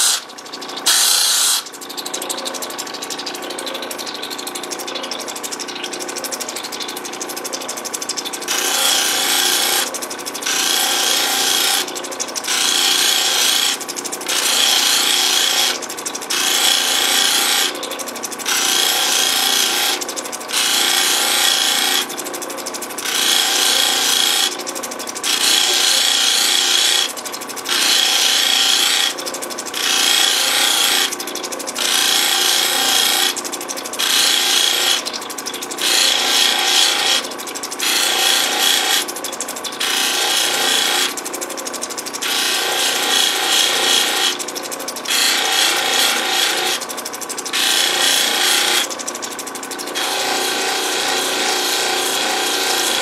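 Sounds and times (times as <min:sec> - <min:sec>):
stone grinding on spinning wheel: 0:00.0 - 0:53.0.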